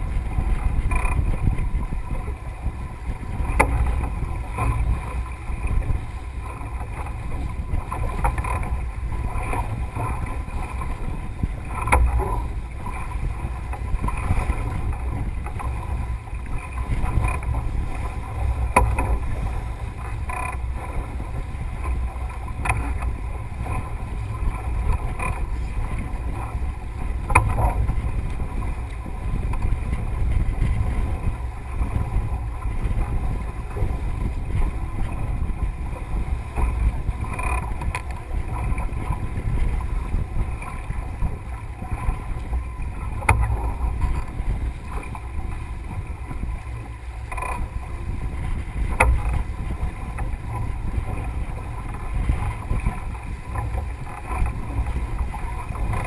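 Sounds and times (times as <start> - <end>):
water rushing along hull: 0.0 - 56.0
wind buffeting microphone: 0.0 - 56.0.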